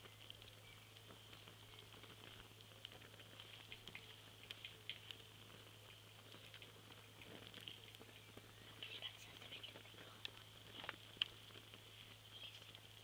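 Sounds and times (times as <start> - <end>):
light clicks and ticks: 0.0 - 13.0
low steady hum: 0.0 - 13.0.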